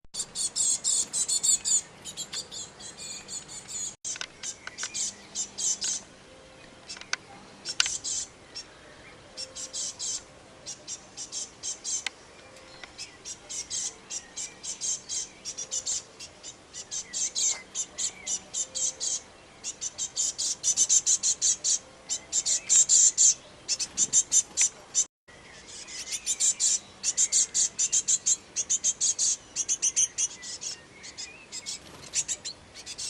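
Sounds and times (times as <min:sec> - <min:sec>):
small birds chirping: 0:00.2 - 0:33.0.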